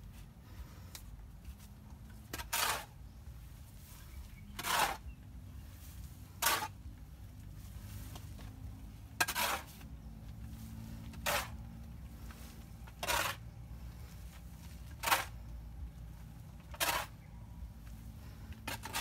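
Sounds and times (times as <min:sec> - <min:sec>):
low steady rumble: 0:00.0 - 0:19.0
shovel scraping gravelly manure: 0:01.5 - 0:19.0.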